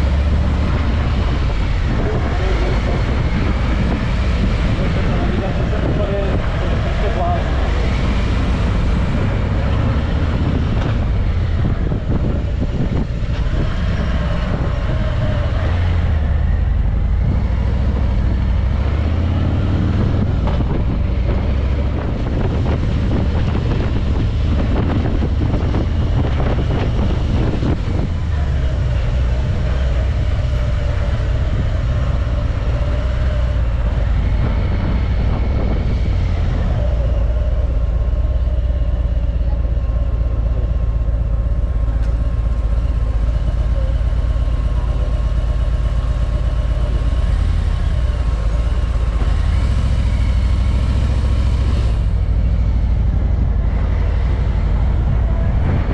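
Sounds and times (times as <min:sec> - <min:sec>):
car engine and road rumble: 0:00.0 - 0:55.9.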